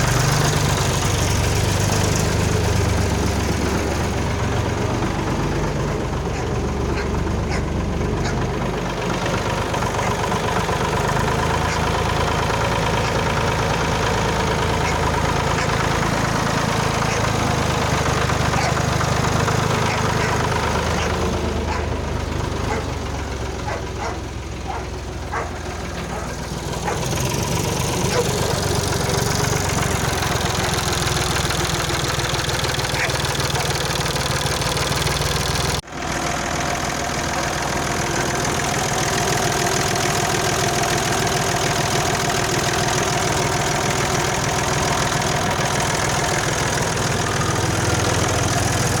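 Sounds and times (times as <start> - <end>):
tractor diesel engine idling: 0.0 - 49.0.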